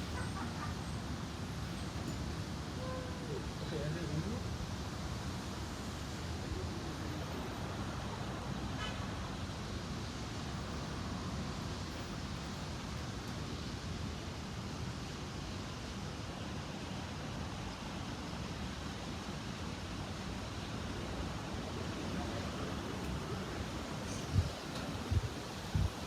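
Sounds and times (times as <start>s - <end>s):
distant road traffic: 0.0s - 26.0s.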